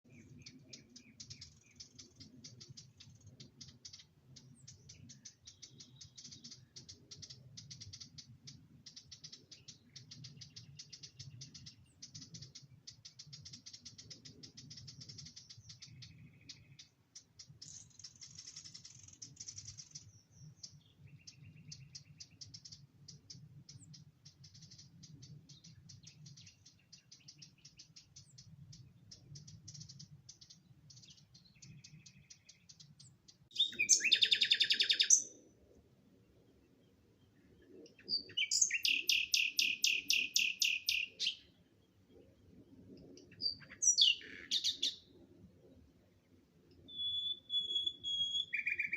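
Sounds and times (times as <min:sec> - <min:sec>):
birds chirping and calling: 0:00.1 - 0:35.4, 0:37.6 - 0:41.6, 0:42.8 - 0:45.2, 0:46.8 - 0:48.9.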